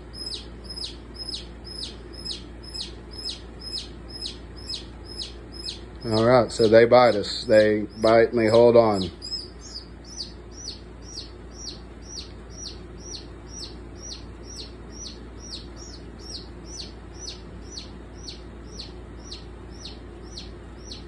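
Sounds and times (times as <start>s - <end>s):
chick peeping: 0.0s - 21.0s.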